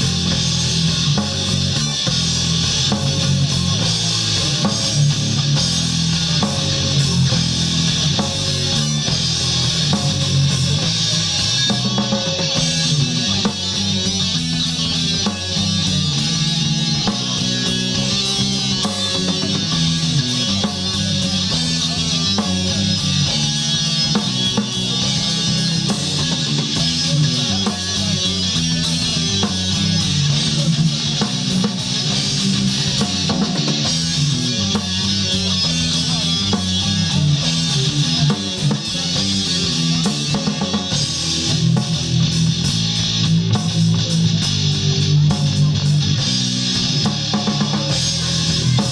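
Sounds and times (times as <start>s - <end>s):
rock band playing: 0.0s - 48.9s.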